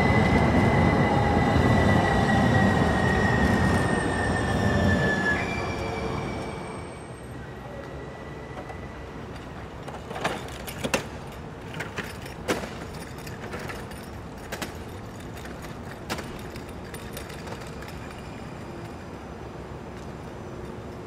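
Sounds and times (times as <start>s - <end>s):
light rail train humming: 0.0s - 21.0s.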